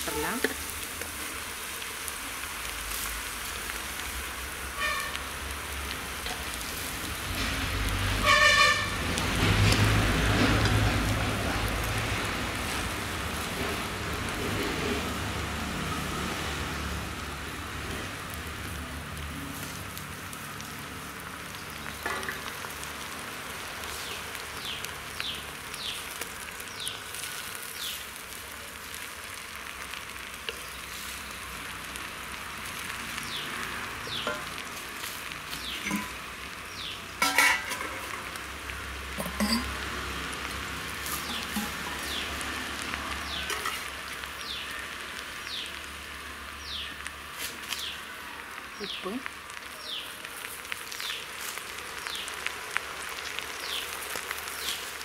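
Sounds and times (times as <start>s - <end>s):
leaves sizzling in hot oil: 0.0s - 55.0s.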